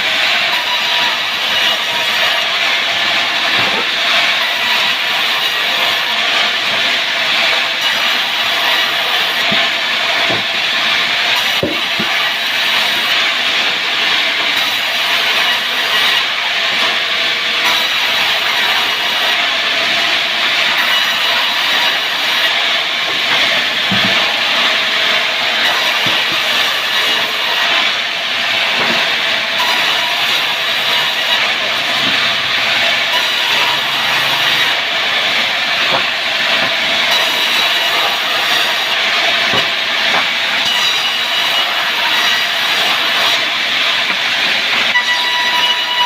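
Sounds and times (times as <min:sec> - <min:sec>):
power saw cutting timber: 0:00.0 - 0:46.0.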